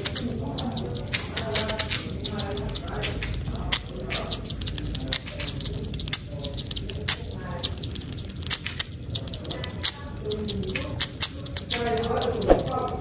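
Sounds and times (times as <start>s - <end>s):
squirrel gnawing food: 0.0s - 13.0s.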